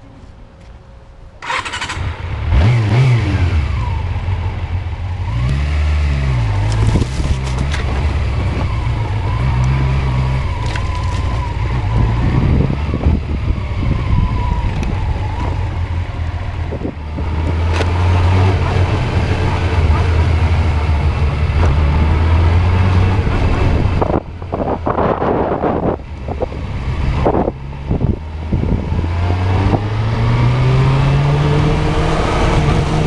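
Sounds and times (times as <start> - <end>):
motorcycle engine starting and revving: 1.4 - 33.0.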